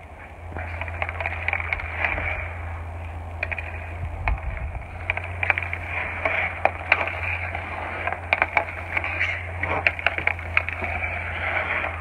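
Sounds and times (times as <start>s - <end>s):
skates scraping ice: 0.0s - 12.0s
hockey stick tapping puck: 0.2s - 12.0s.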